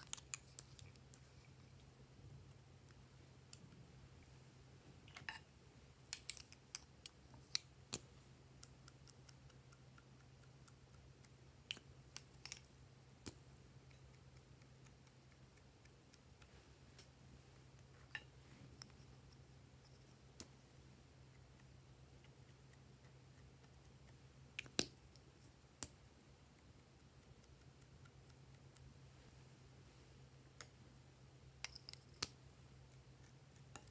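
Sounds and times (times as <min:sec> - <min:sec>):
faint low hum: 0:00.0 - 0:33.9.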